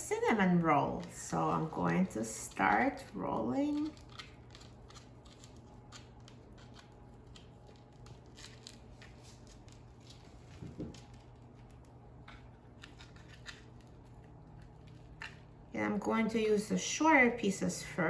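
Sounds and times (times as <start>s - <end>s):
low steady hum: 0.0s - 18.0s
soft crackles and rustles: 0.3s - 15.6s.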